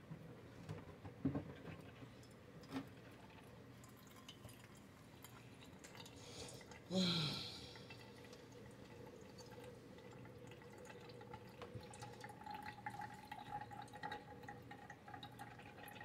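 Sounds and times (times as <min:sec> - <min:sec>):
water dripping: 0:02.2 - 0:16.0.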